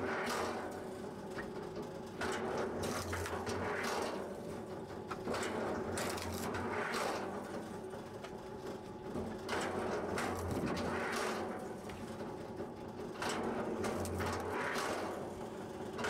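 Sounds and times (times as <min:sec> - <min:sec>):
log splitter motor hum: 0:00.6 - 0:16.0.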